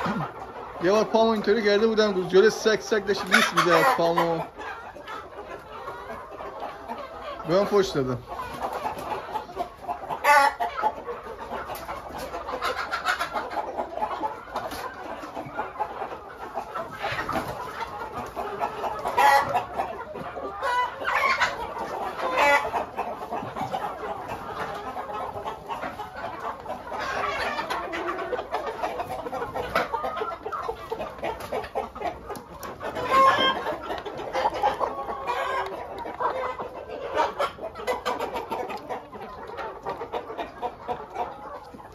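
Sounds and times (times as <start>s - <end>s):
hens and roosters clucking: 0.0s - 41.9s.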